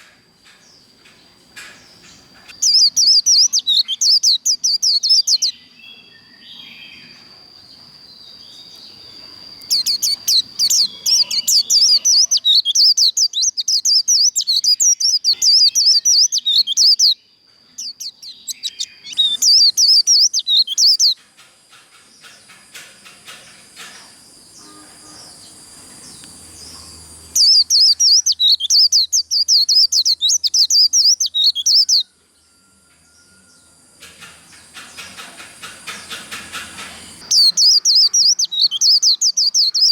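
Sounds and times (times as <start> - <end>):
bird high twittering song: 0.0 - 21.3, 22.0 - 39.9.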